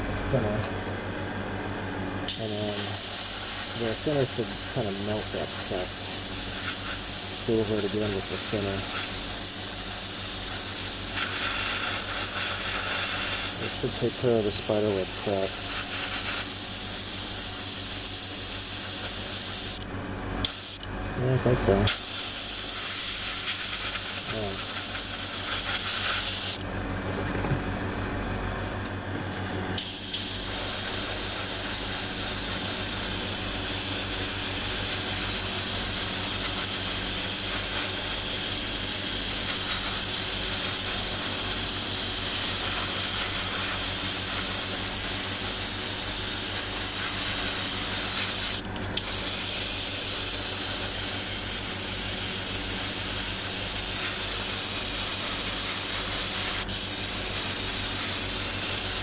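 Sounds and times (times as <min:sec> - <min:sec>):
air compressor hum: 0:00.0 - 0:59.0
airbrush spraying hiss: 0:02.3 - 0:19.8, 0:20.4 - 0:20.8, 0:21.9 - 0:26.6, 0:29.8 - 0:59.0.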